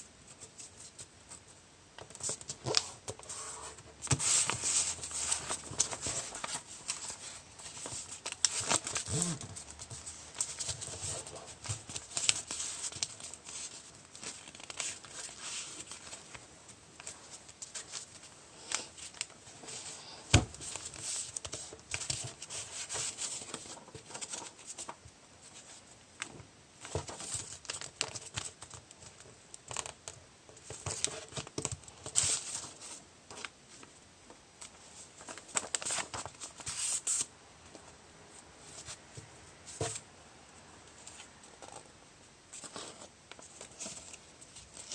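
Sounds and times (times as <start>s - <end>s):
paper crinkling and rustling: 0.3s - 34.0s, 34.6s - 37.8s, 42.5s - 44.9s.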